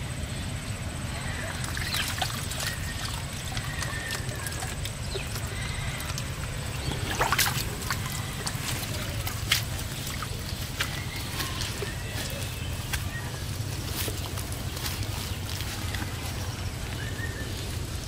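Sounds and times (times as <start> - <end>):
steady low rumble: 0.0 - 18.0
water sloshing and splashing: 1.2 - 18.0.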